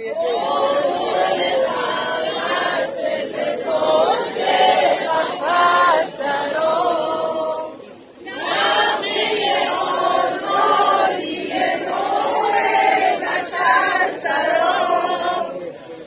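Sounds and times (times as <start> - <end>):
large crowd singing: 0.0 - 16.0.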